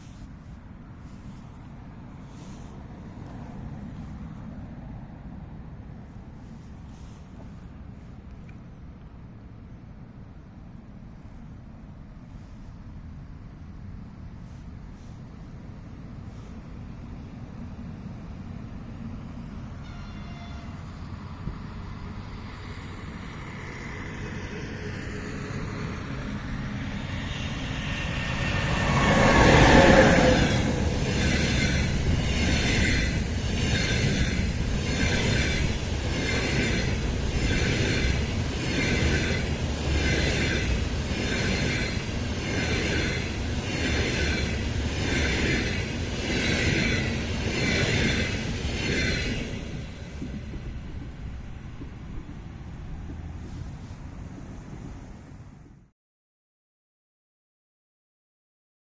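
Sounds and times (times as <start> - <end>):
electric locomotive passing: 0.0 - 55.9.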